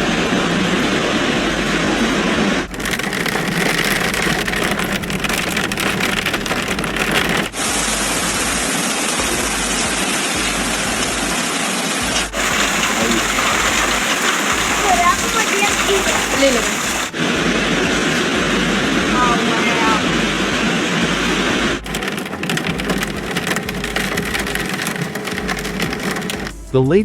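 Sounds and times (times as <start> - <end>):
heavy hail and rain falling: 0.0 - 26.7.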